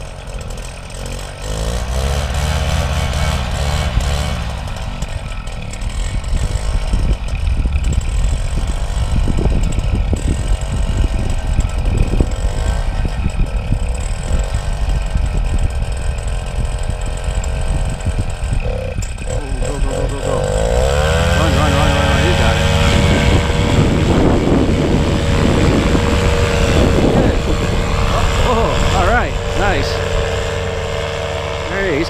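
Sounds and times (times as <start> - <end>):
paramotor engine and propeller: 0.0 - 32.0.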